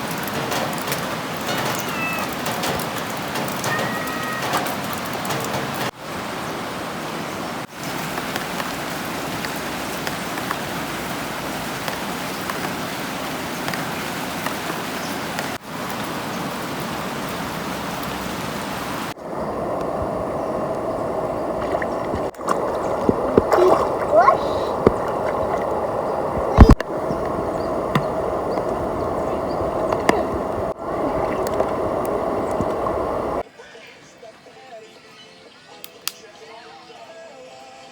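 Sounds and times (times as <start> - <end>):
rain falling: 0.0 - 33.4
river flowing: 0.0 - 33.4.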